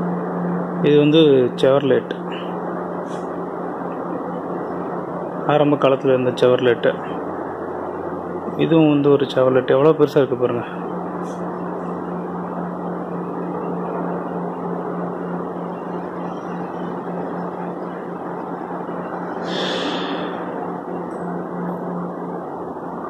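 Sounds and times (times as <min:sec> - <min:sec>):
air conditioning hum and hiss: 0:00.0 - 0:23.0
low humming tone: 0:00.0 - 0:23.0.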